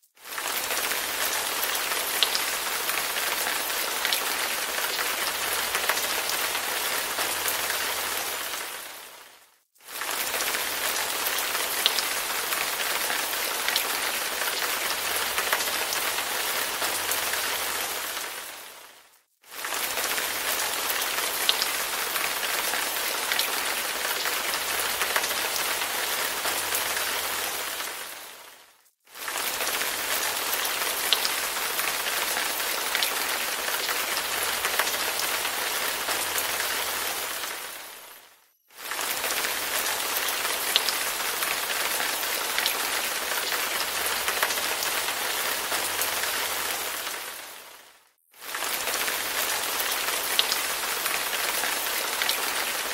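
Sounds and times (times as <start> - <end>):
rain hiss: 0.2 - 52.9.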